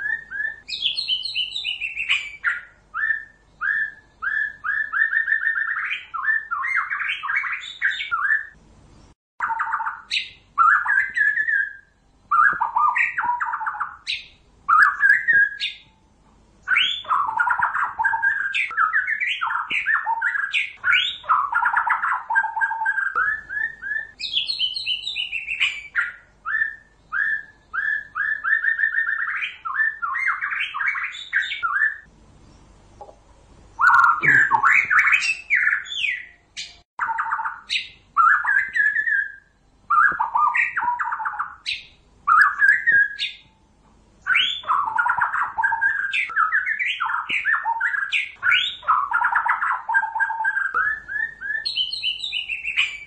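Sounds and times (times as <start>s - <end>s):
bird song with trills: 0.0s - 53.0s.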